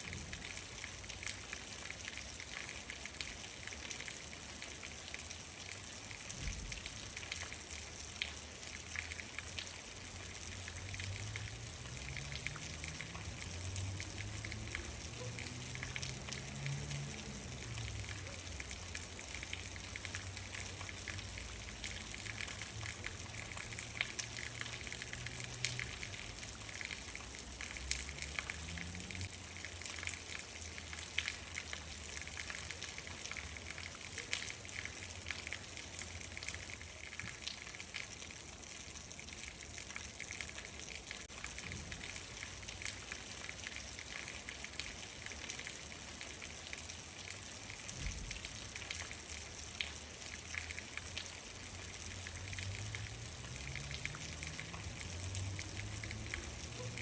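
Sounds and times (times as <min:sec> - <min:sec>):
raindrops ticking on a surface: 0:00.0 - 0:57.0
steady rain falling: 0:00.0 - 0:57.0.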